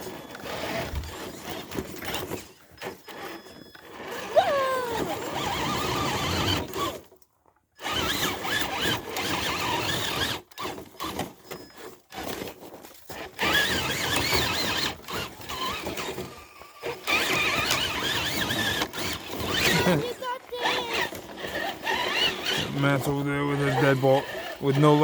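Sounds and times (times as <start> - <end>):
electric motor whining: 0.2 - 1.6, 2.9 - 7.0, 7.8 - 11.2, 13.4 - 25.0.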